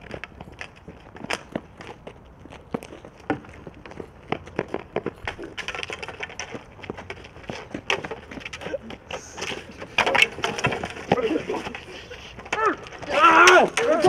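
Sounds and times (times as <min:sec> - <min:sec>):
hockey sticks clacking on asphalt: 0:00.0 - 0:14.0.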